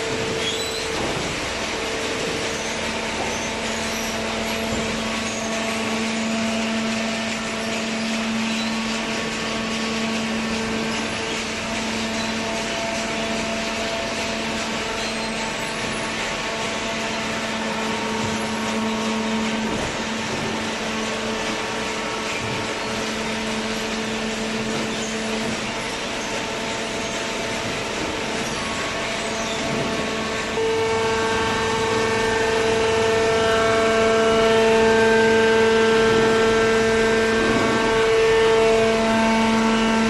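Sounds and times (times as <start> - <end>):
hydraulic machine hum: 0.0 - 40.0.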